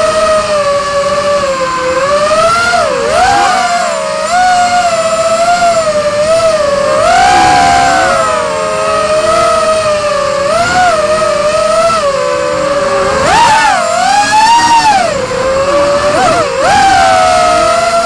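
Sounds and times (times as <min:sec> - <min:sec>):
quadcopter motors buzzing whine: 0:00.0 - 0:18.0.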